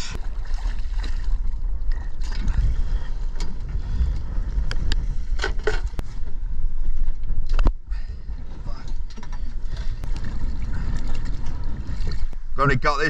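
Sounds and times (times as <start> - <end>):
wind rumbling over microphone: 0.0 - 13.0.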